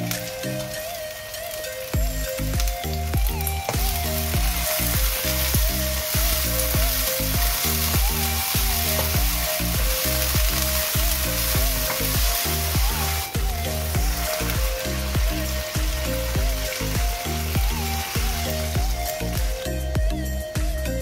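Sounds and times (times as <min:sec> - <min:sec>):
background music: 0:00.0 - 0:21.0
vegetables sizzling in a wok: 0:00.0 - 0:21.0
wooden spoon stirring: 0:02.3 - 0:19.4.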